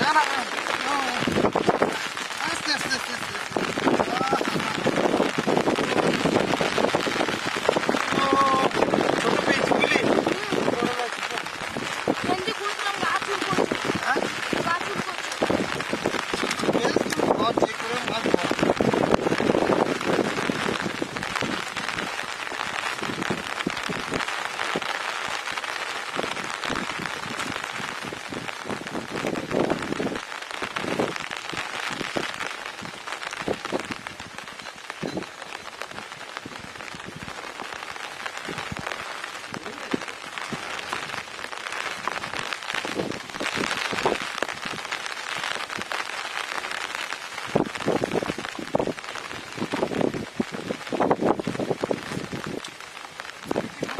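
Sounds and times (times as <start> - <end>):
close raindrop hits: 0.0 - 53.9
steady rain falling: 0.0 - 53.9.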